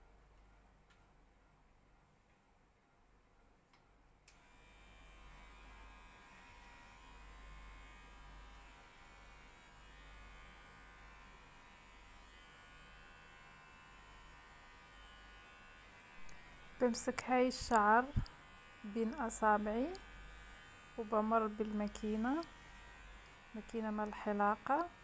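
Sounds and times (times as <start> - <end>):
hair clipper buzzing: 4.3 - 25.0.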